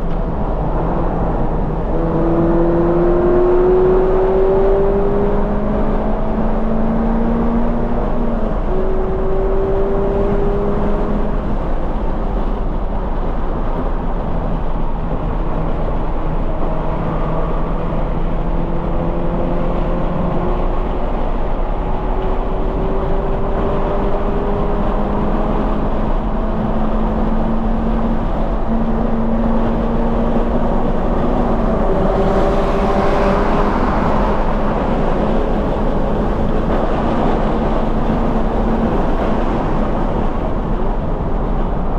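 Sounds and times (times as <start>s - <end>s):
car engine pulling hard: 0.0s - 41.9s
road and wind noise: 0.0s - 41.9s.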